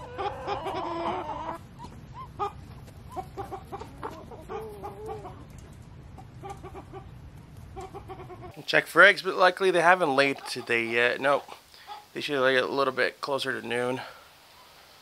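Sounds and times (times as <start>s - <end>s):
chickens clucking: 0.0s - 8.6s, 9.3s - 13.0s.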